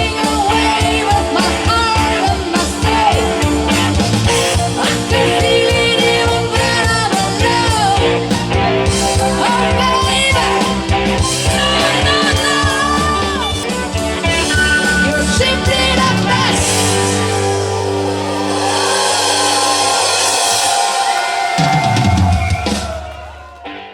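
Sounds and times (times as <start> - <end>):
person singing: 0.0 - 20.6
drums: 0.0 - 23.9
guitar: 0.0 - 23.9.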